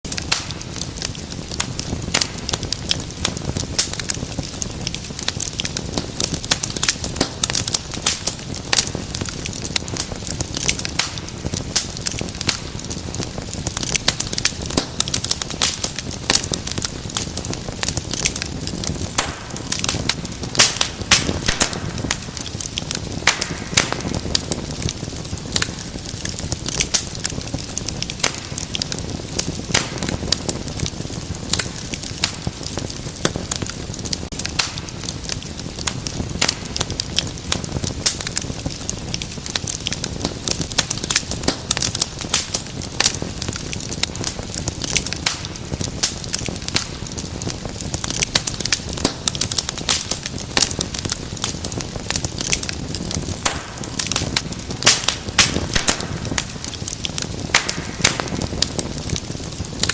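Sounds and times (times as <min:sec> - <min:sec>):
wood fire crackling and popping: 0:00.0 - 0:59.9
low rush of flame: 0:00.1 - 0:59.9.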